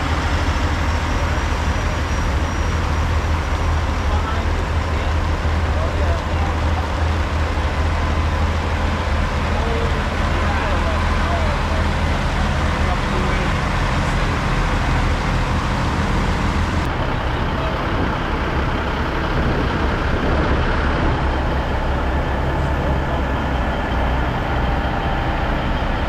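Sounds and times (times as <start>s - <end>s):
diesel truck engine droning: 0.0s - 26.0s.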